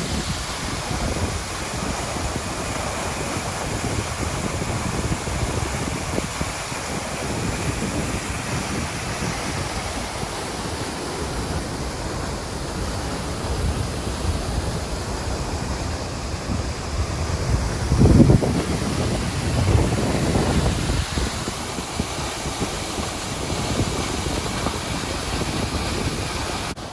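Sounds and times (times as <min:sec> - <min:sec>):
waterfall roaring: 0:00.0 - 0:26.9
wind buffeting microphone: 0:00.0 - 0:26.9.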